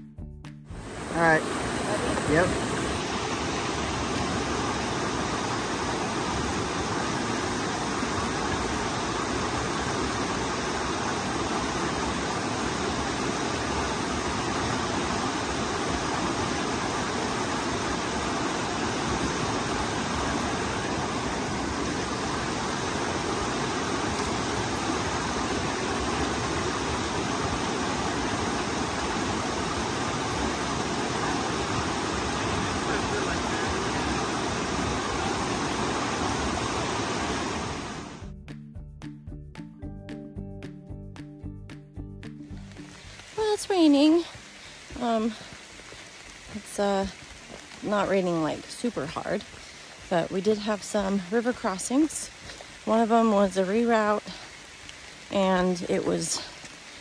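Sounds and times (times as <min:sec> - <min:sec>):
stream rushing over rocks: 0:00.7 - 0:38.2, 0:42.4 - 0:57.0.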